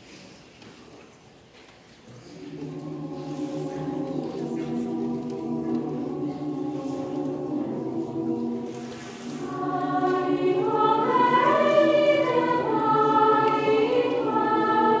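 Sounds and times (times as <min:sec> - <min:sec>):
choir singing long held notes: 0:02.2 - 0:15.0.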